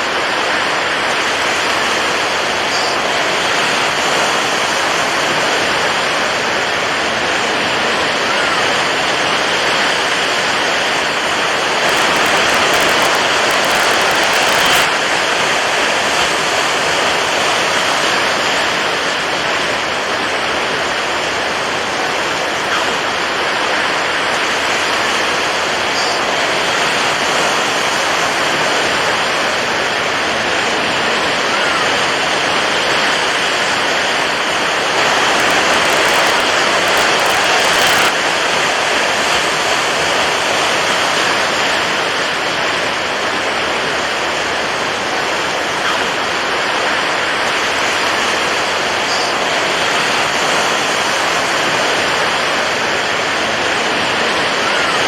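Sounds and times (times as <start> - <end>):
water waves rushing: 0.1 - 55.0.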